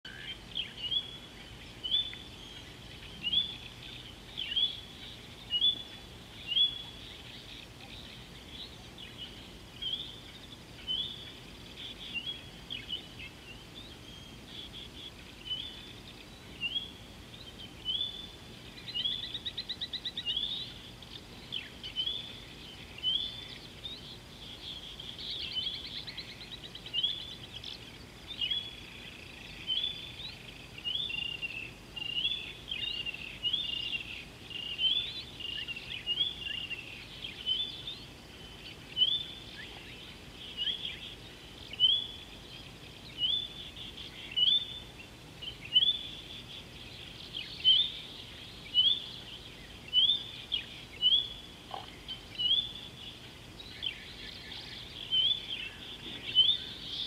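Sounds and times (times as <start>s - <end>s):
faint background hiss: 0.0s - 57.0s.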